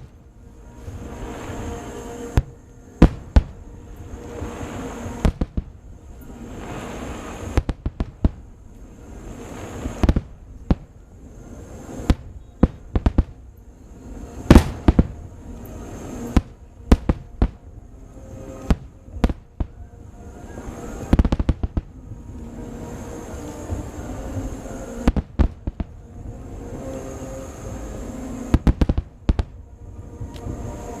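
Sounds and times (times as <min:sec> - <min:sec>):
fireworks exploding: 0:00.0 - 0:31.0.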